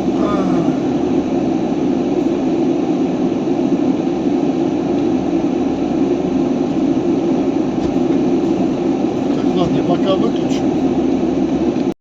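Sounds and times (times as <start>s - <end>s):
road noise: 0.0s - 11.9s
strong low hum: 0.0s - 12.0s
truck engine drone in cab: 0.0s - 12.0s.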